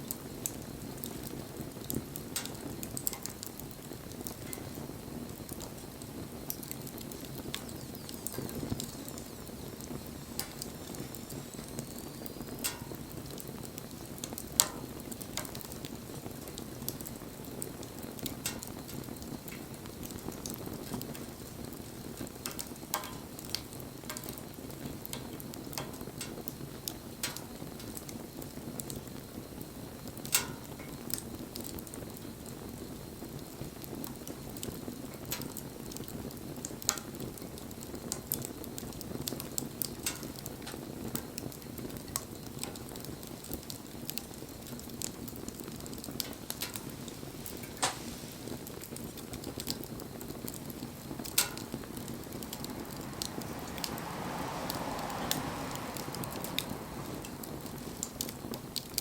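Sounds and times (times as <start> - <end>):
campfire flames rushing: 0.0 - 59.0
fire crackles and pops: 0.0 - 59.0.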